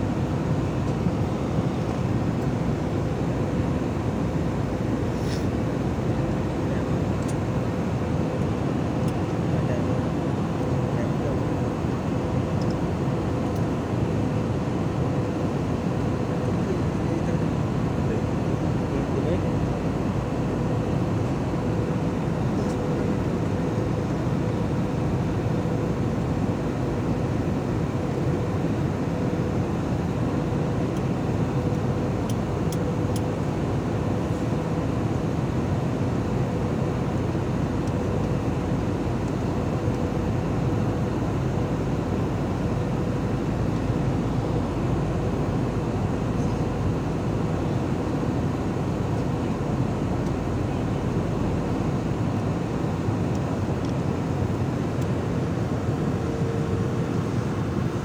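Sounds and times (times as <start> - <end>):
airliner cabin roar: 0.0 - 58.0
faint constant tone: 0.0 - 58.0.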